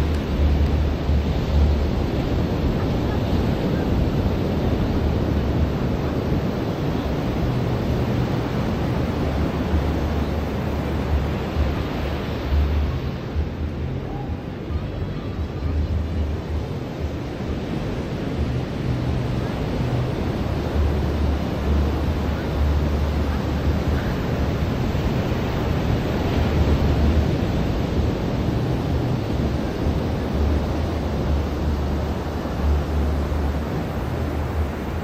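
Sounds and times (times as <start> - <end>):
ocean surf washing onto beach: 0.0 - 35.0
wind buffeting microphone: 0.0 - 35.0.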